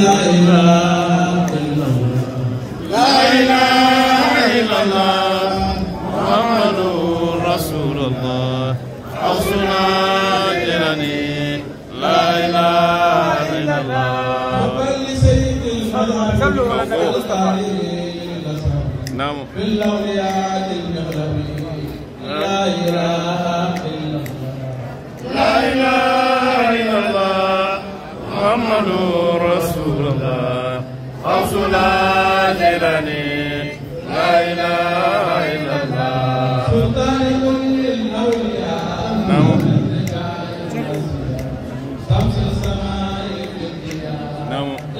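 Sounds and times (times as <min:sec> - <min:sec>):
man chanting into microphone: 0:00.0 - 0:25.0, 0:25.7 - 0:44.9.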